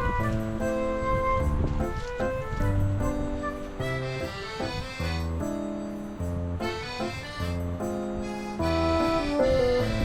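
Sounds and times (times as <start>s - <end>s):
accordion-like instrumental tune: 0.0s - 10.0s.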